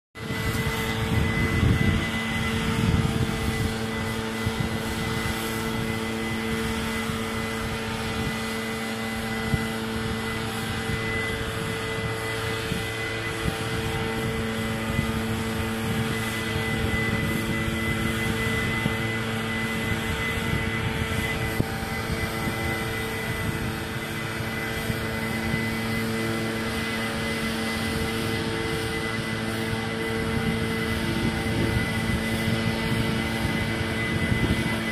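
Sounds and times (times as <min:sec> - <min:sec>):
leaf blower droning: 0:00.2 - 0:34.9.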